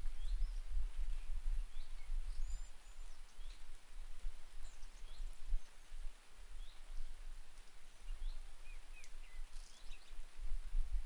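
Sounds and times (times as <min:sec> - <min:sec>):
birds chirping: 0:00.0 - 0:03.8, 0:04.5 - 0:11.0
rain falling: 0:00.0 - 0:11.0.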